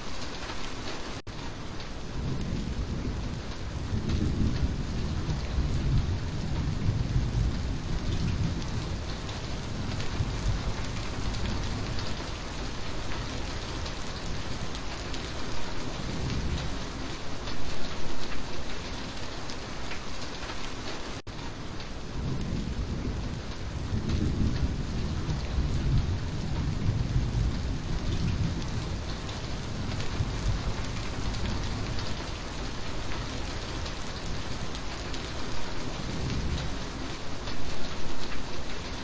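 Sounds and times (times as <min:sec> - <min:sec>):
steady rain: 0:00.0 - 0:39.0
low rolling thunder: 0:02.0 - 0:18.7, 0:22.0 - 0:39.0.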